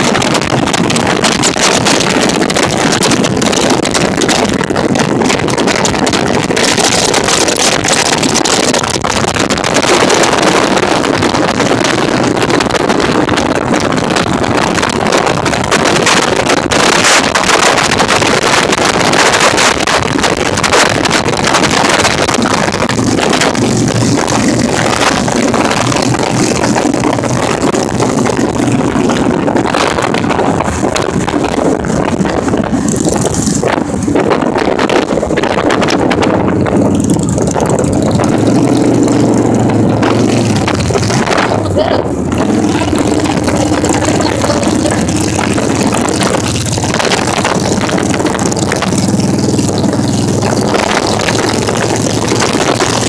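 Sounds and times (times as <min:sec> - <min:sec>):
motorcycle engine hum: 0:00.0 - 0:53.0
wind and road rush: 0:00.0 - 0:53.0.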